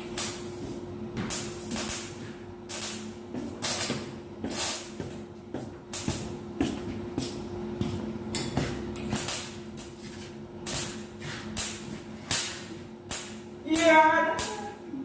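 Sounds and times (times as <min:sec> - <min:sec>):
arc welder crackle and hiss: 0:00.0 - 0:15.0
steady low hum: 0:00.0 - 0:15.0.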